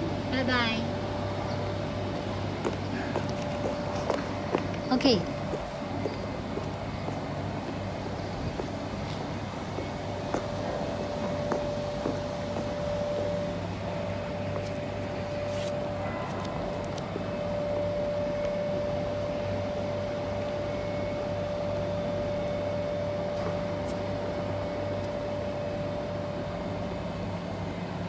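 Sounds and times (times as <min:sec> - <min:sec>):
mechanical hum with high tone: 0:00.0 - 0:28.0.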